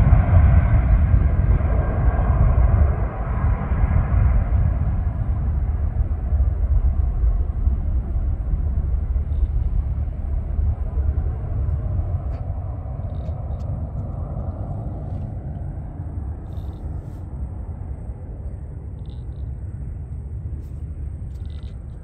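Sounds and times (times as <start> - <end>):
aircraft engine rumble: 0.0 - 22.0.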